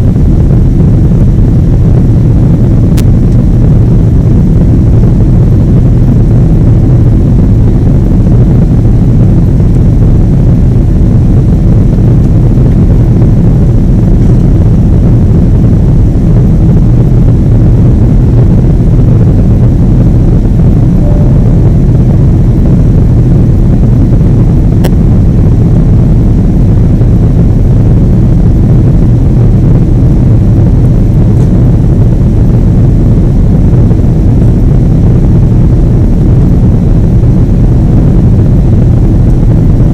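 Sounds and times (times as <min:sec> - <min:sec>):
jet engines rumbling: 0:00.1 - 0:35.2.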